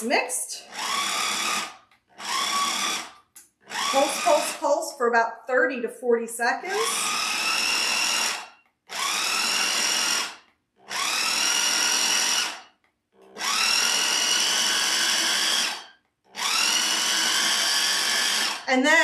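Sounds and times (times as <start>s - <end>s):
food processor motor whine: 0.5s - 4.7s, 6.7s - 18.7s.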